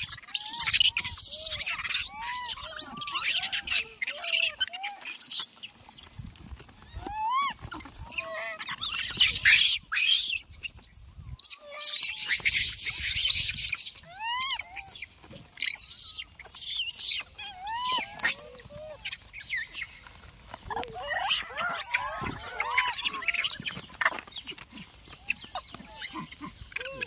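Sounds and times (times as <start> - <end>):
monkeys calling: 0.0 - 27.0.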